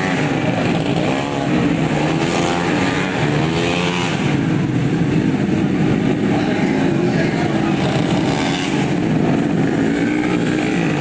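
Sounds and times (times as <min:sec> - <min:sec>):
racing scooter engines passing: 0:00.0 - 0:11.0.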